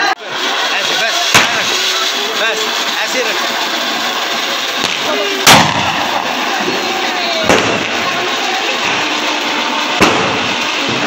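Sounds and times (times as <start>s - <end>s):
firework fountain hissing: 0.0s - 11.0s
firecracker bangs: 0.4s - 11.0s.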